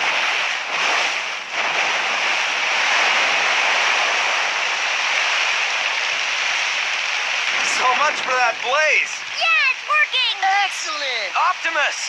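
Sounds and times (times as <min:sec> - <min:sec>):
water gushing from a hose: 0:00.0 - 0:12.0.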